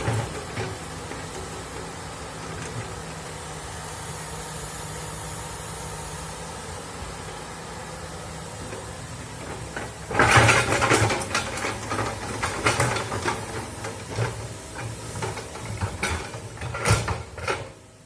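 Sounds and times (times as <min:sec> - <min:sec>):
diesel engine humming: 0:00.0 - 0:16.8.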